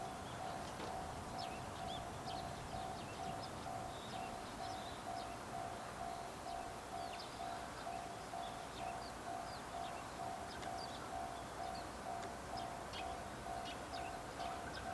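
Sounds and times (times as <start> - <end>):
level crossing warning bell ringing: 0.0 - 14.9.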